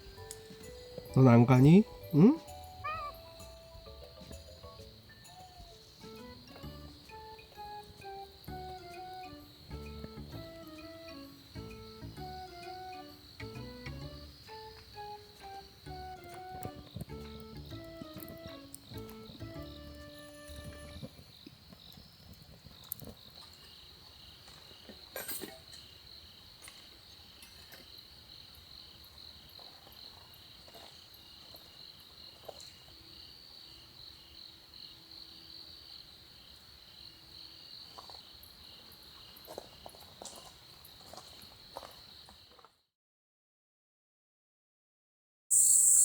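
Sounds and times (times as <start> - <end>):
crickets chirping: 0.0 - 42.7, 45.5 - 46.0.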